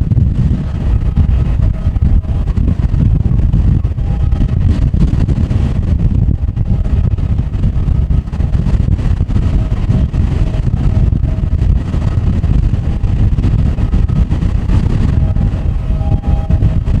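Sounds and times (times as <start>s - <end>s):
faint jet engine whine: 0.0s - 17.0s
wind buffeting microphone: 0.0s - 17.0s.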